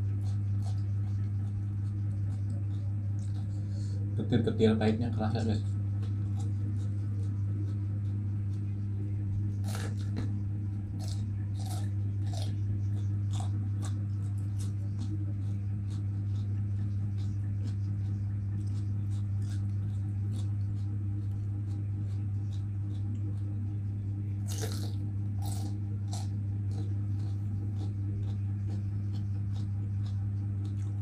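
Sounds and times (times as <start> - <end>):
crunchy chewing: 0.0 - 31.0
steady low hum: 0.0 - 31.0.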